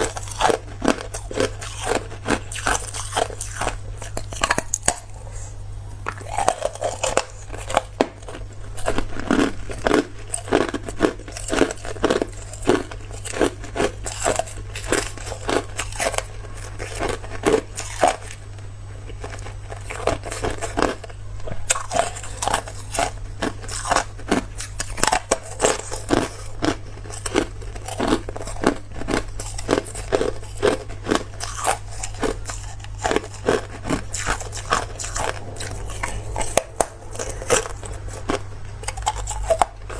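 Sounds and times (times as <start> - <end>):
ice being chewed: 0.0 - 39.9
steady low hum: 0.0 - 39.9.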